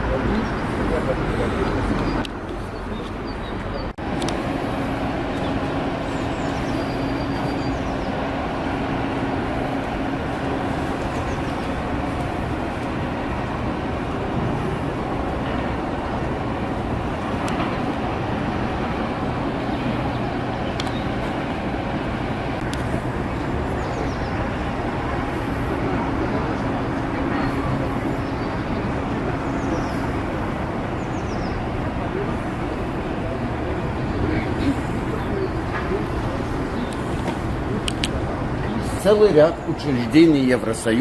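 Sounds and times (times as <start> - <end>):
traffic and street noise: 0.0 - 41.0
vehicle engine hum: 0.0 - 41.0.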